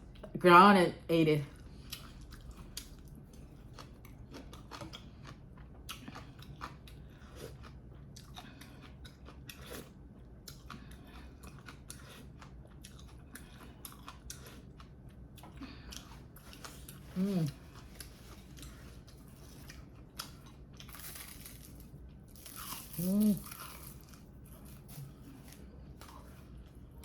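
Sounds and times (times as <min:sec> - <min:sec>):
person chewing food: 0:01.5 - 0:27.0.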